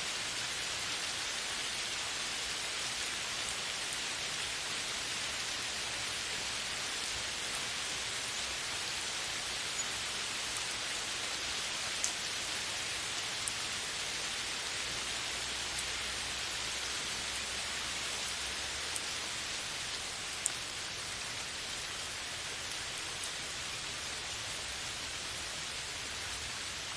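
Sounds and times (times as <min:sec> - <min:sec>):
heavy rain on forest canopy: 0:00.0 - 0:26.9.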